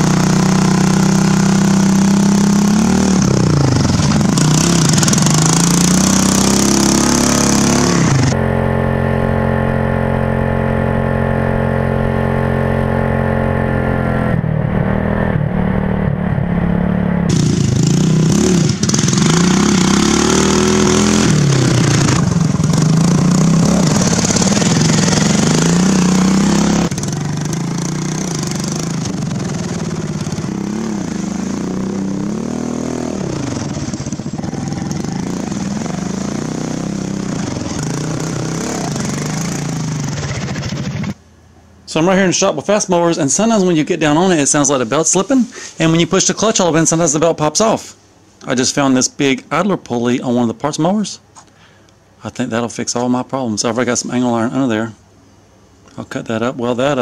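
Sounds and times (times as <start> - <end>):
lawn mower engine revving: 0.0 - 41.3, 41.9 - 47.7.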